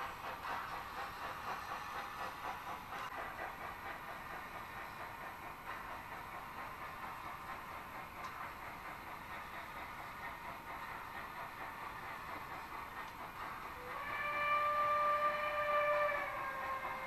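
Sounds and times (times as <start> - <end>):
model trains running: 0.0 - 17.0.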